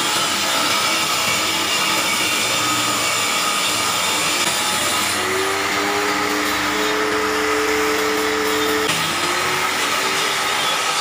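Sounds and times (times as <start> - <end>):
angle grinder sanding wood: 0.0 - 11.0.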